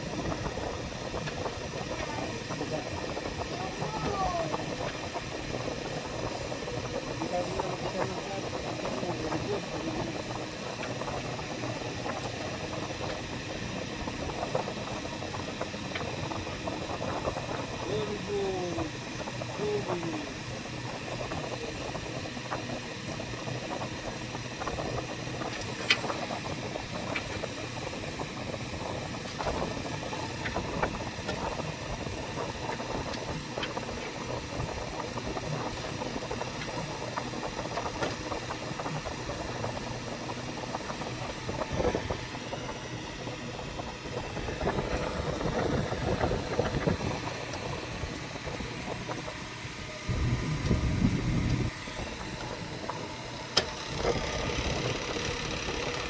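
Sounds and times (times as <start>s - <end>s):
background hum and hiss: 0.0s - 56.0s.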